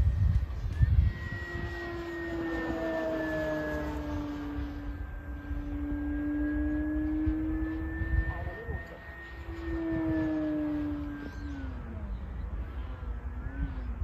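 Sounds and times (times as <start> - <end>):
electric model plane whine: 0.0 - 14.0
wind buffeting microphone: 0.0 - 14.0.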